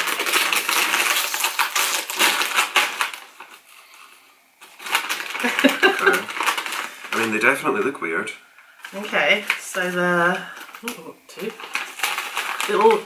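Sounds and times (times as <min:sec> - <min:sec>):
crisp packet crinkling: 0:00.0 - 0:13.0.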